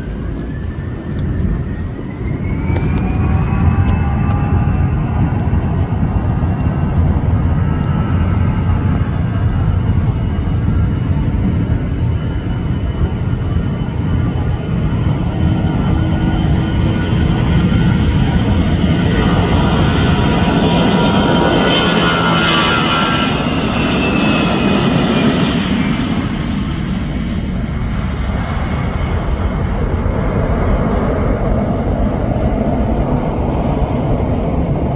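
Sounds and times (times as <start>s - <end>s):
jet airliner passing at takeoff: 0.0s - 34.9s.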